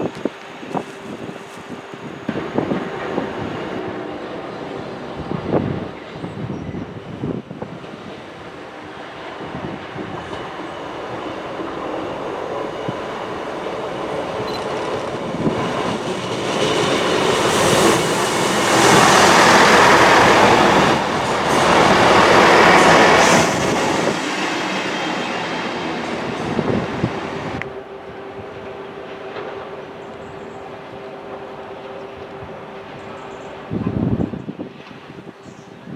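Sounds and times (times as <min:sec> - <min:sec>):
train wheel and rail noise: 0:00.0 - 0:35.9.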